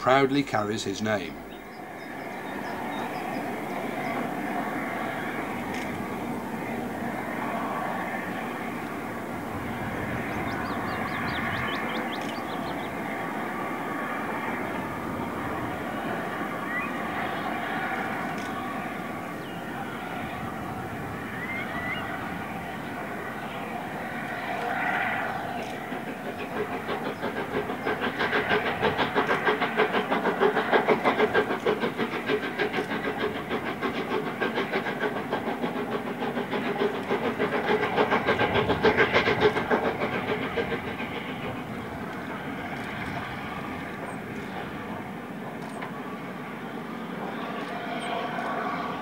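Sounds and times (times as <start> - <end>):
steam locomotive at speed: 0.0 - 49.0.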